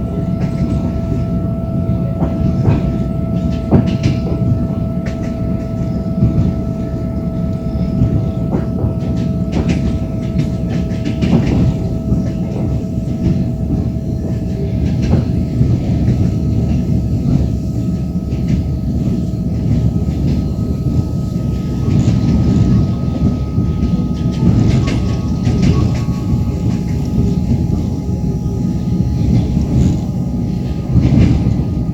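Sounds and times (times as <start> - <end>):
train rolling rumble: 0.0 - 31.9.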